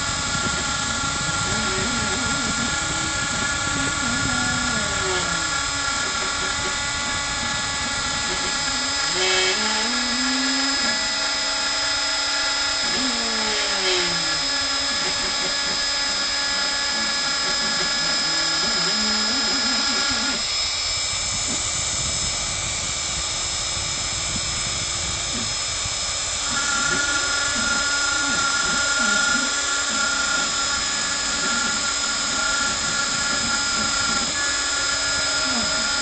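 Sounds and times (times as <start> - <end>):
router spindle whine: 0.0 - 36.0
stepper motor gliding tones: 0.0 - 36.0.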